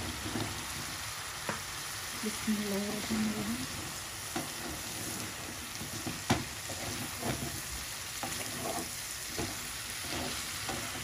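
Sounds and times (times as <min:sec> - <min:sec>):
wooden spatula scraping a pan: 0:00.0 - 0:01.0, 0:02.9 - 0:11.0
food sizzling in a wok: 0:00.0 - 0:11.0.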